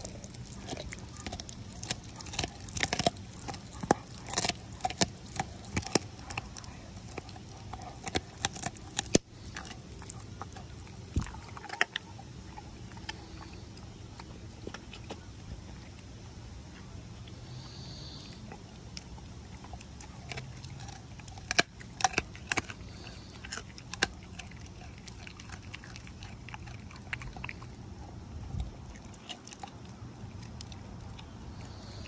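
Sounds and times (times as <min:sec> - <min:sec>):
dog chewing meat on bone: 0:00.0 - 0:16.4, 0:17.2 - 0:32.0.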